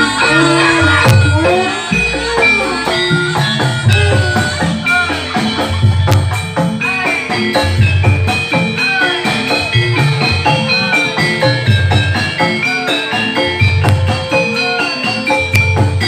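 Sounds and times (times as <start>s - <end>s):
gamelan music: 0.0s - 16.0s
hand drums: 0.0s - 16.0s.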